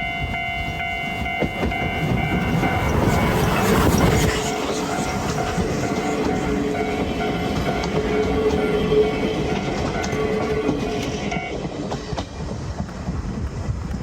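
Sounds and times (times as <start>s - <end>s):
train running past: 0.0s - 14.0s.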